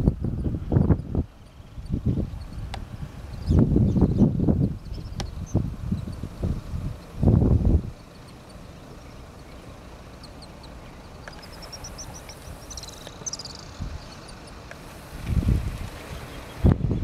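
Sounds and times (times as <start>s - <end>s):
bird calling with buzzy trill: 0.0s - 15.2s.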